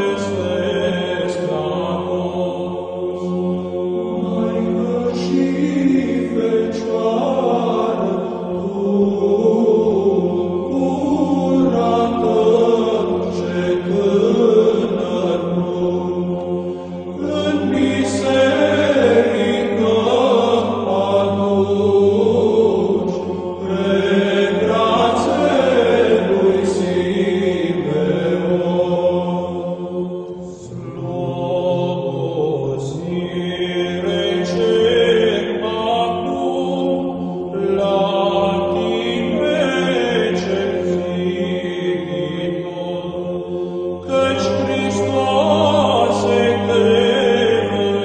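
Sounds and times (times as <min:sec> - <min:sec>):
voices chanting slow melody: 0:00.0 - 0:48.0.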